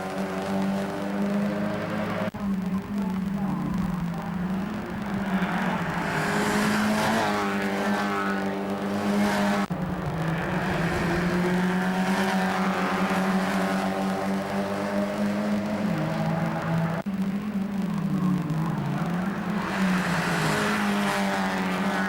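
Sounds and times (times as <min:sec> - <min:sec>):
race car engines passing: 0:00.0 - 0:22.0.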